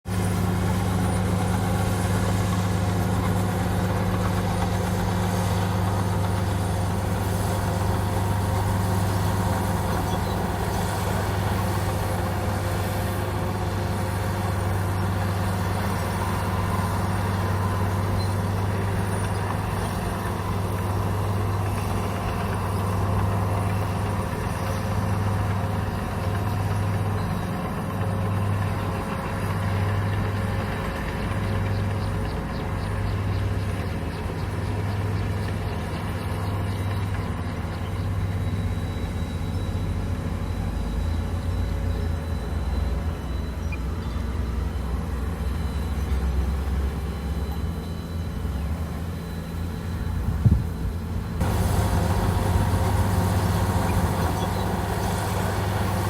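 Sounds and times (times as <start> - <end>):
bulldozer diesel engine drone: 0.1 - 56.0.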